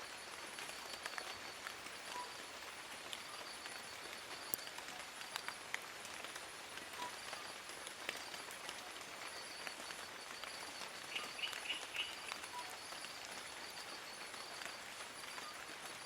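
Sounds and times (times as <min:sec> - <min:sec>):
rain pattering on leaves: 0:00.0 - 0:16.0.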